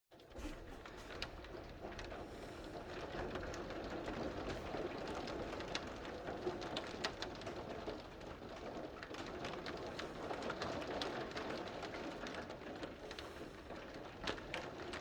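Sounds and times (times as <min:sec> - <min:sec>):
steady rain falling: 0:01.0 - 0:15.0.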